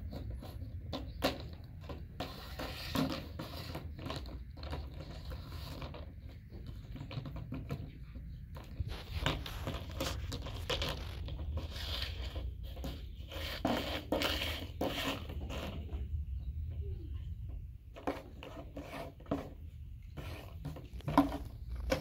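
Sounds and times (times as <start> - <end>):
plastic bucket scraping on stone: 0.0 - 16.0, 17.9 - 22.0.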